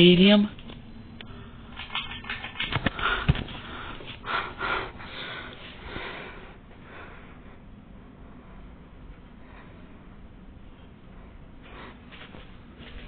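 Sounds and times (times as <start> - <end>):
ceiling fan whirring: 0.0 - 13.0.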